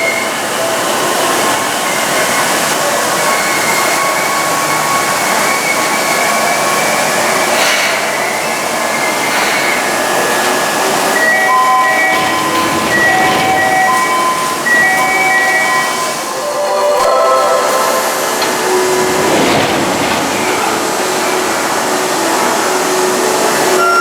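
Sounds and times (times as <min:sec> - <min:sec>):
train noise: 0:00.0 - 0:24.0.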